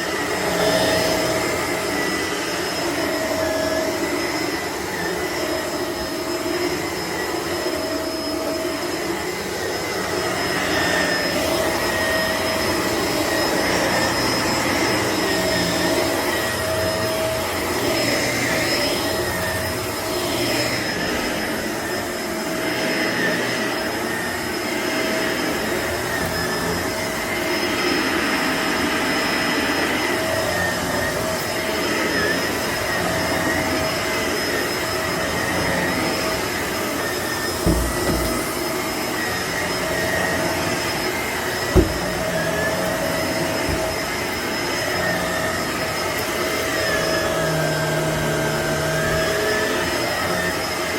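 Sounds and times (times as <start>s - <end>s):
vacuum cleaner whining: 0.0s - 50.9s.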